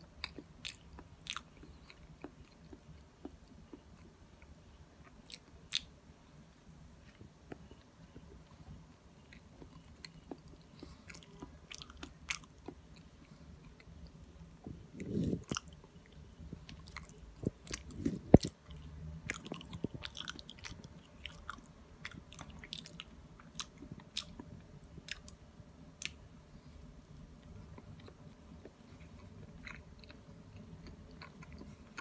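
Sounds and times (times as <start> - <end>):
chewing banana: 0.1 - 5.9, 7.1 - 25.4, 27.4 - 32.0.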